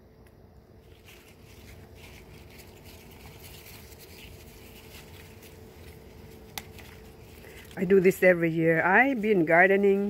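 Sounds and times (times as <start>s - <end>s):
faint steady hum: 0.0s - 10.0s
leaves rustling: 0.7s - 10.0s.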